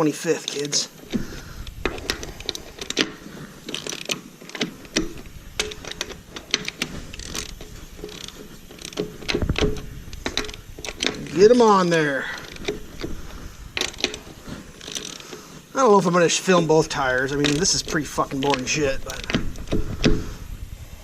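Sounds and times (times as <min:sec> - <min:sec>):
hand ratchet clicking: 0:00.3 - 0:15.7, 0:16.6 - 0:20.4.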